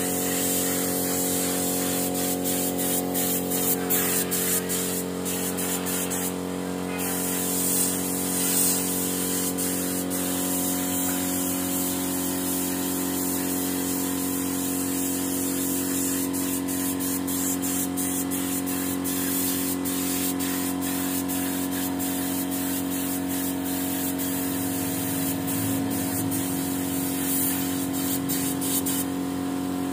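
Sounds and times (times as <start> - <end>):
spray gun hissing: 0.0 - 29.2.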